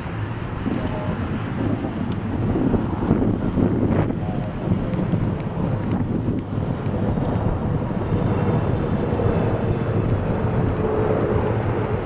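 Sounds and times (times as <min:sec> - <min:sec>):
faint jet engine whine: 0:00.0 - 0:12.0
jet airliner passing overhead: 0:00.0 - 0:12.0.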